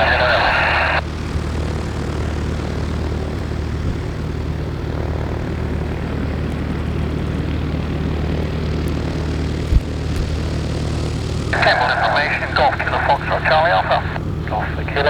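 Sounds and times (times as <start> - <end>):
aircraft piston engine droning: 0.0 - 15.0.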